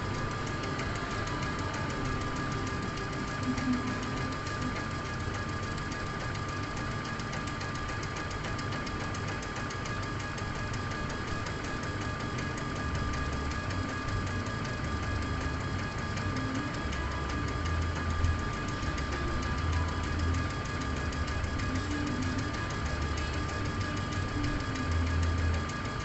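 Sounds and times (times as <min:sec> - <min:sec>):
engraving machine motor whine: 0:00.0 - 0:26.0
fast even ticking: 0:00.0 - 0:26.0.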